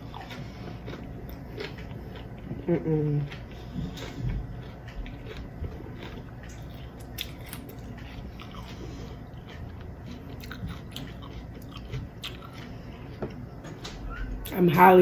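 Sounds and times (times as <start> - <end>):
person chewing crunchy chips: 0.0 - 14.6.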